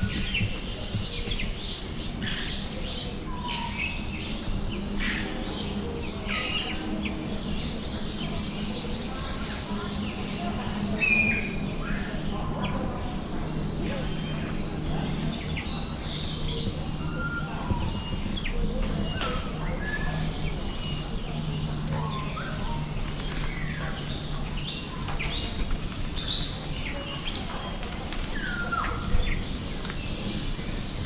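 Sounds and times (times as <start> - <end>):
many birds calling: 0.0 - 31.0.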